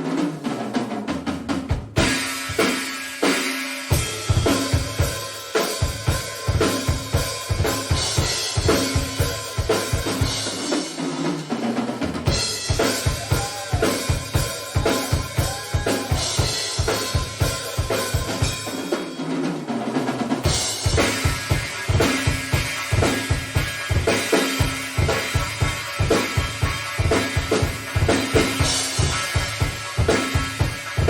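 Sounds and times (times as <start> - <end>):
cymbals washing: 2.0 - 11.7, 12.3 - 19.7, 20.4 - 31.0.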